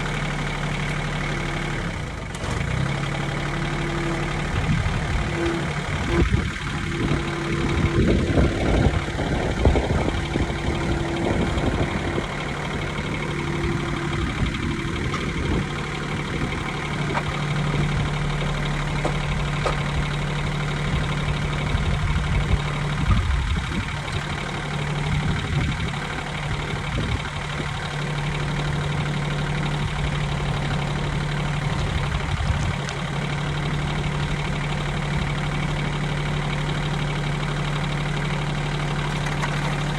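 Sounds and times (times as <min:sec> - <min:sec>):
diesel tractor engine idling: 0:00.0 - 0:39.9.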